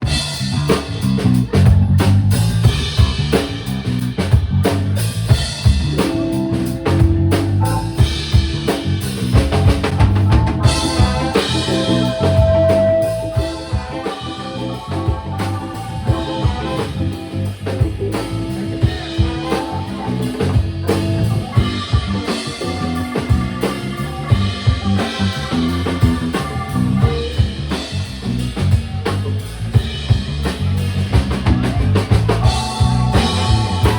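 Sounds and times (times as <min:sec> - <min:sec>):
drum kit groove: 0:00.0 - 0:33.9
funk band playing: 0:00.0 - 0:33.9.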